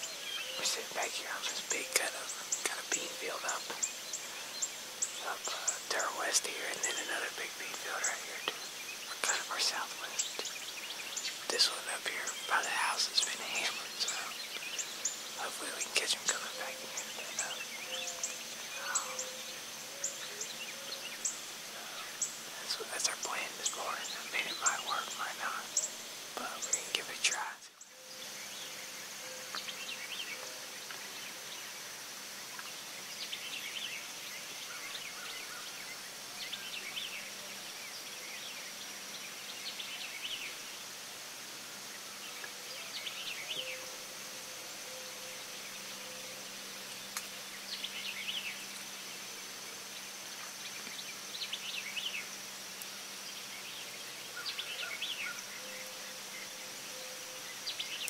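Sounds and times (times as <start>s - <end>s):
bird chirping: 0.0s - 40.8s, 41.9s - 58.0s.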